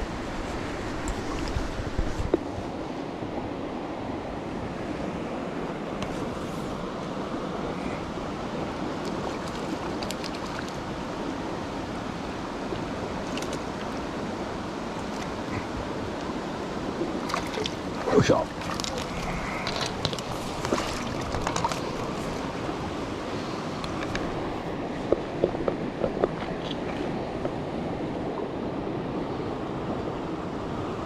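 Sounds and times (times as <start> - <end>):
river rushing: 0.0 - 31.0.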